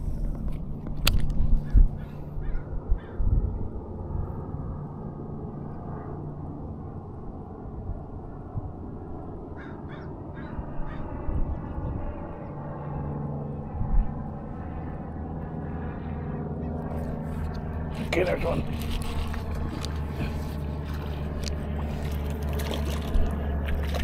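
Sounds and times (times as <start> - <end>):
low engine drone: 0.0 - 24.0.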